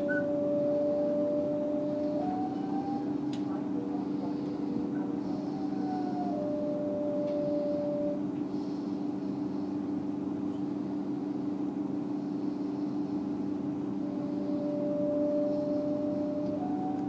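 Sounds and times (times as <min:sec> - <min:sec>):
train interior low hum: 0:00.0 - 0:17.0.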